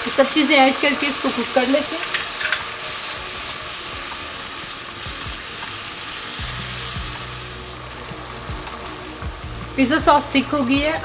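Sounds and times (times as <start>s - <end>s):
spatula stirring in pan: 0.0s - 10.9s
sauce sizzling in a frying pan: 0.0s - 11.0s.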